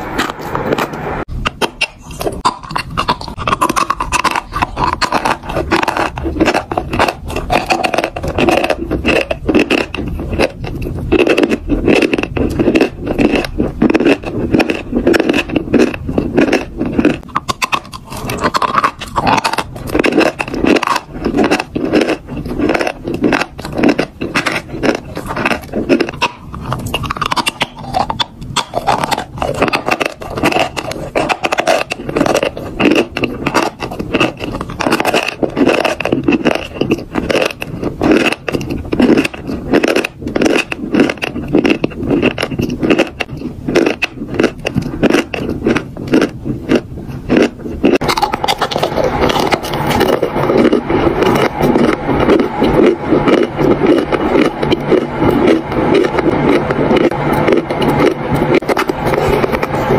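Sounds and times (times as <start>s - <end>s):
chalk being chewed: 0.0s - 59.9s.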